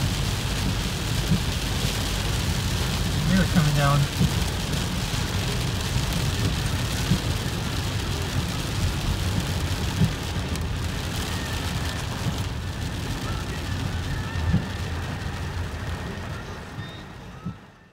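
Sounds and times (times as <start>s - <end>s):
car rumbling on wet road: 0.0s - 17.9s
rain on car windshield: 0.0s - 17.9s.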